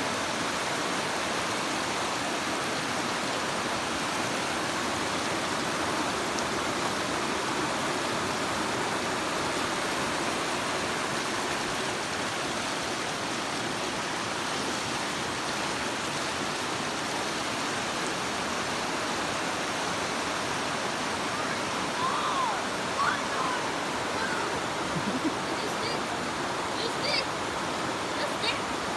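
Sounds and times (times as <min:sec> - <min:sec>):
river water rushing over rocks: 0:00.0 - 0:28.9.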